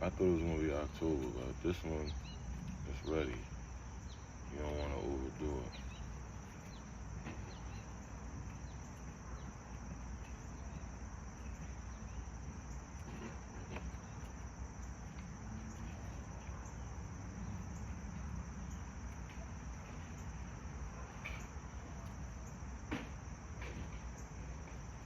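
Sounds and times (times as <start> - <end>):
constant low rumble: 0.0 - 25.0
crickets chirring: 0.0 - 25.0.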